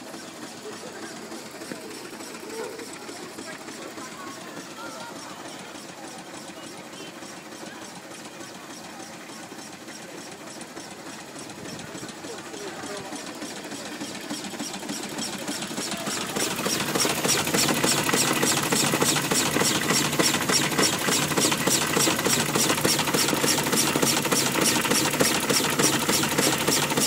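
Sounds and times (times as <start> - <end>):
steam engine motion clattering: 0.0 - 27.0.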